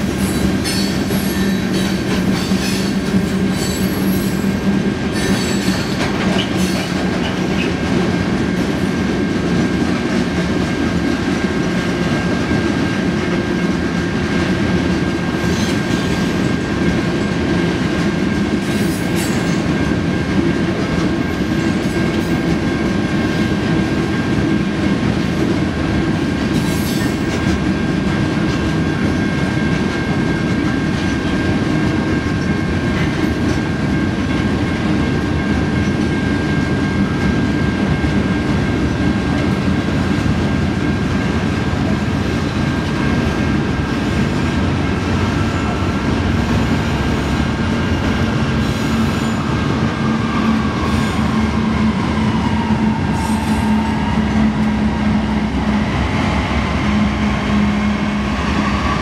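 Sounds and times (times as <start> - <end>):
diesel locomotive droning hum: 0.0 - 59.0
train wheels rumbling on rails: 0.0 - 59.0.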